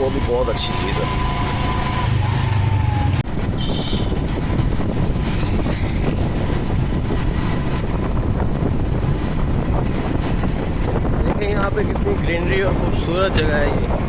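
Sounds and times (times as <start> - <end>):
vehicle engine: 0.0 - 14.0
wind rumbling on microphone: 0.0 - 14.0.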